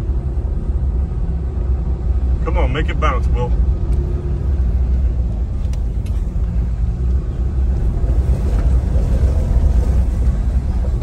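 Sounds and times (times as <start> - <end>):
road and engine rumble in cab: 0.0 - 11.0.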